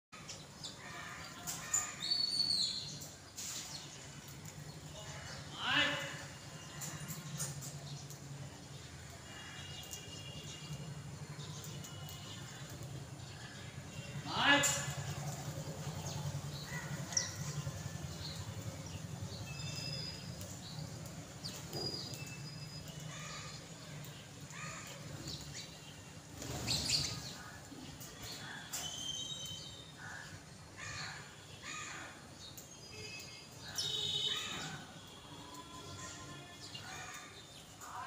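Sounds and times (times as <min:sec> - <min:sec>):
sparrows chirping: 0:00.2 - 0:38.0.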